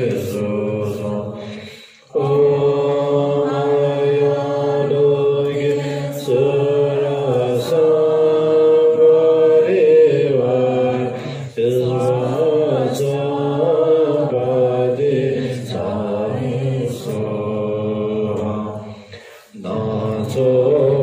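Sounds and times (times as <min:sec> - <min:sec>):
women chanting prayers: 0:00.0 - 0:21.0.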